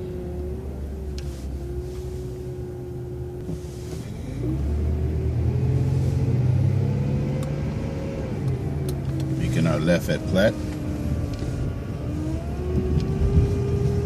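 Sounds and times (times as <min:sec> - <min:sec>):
bus engine idling and revving: 0:00.0 - 0:14.0.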